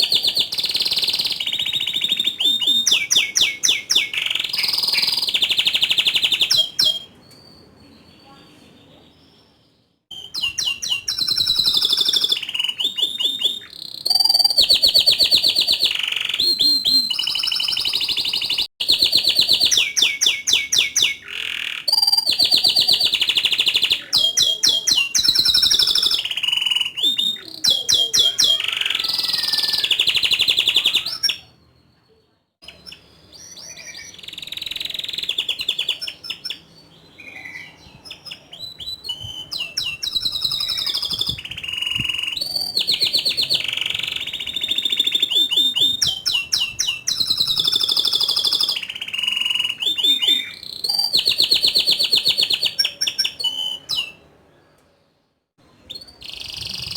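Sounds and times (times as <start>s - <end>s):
canary singing trills: 0.0s - 54.9s, 55.7s - 56.9s.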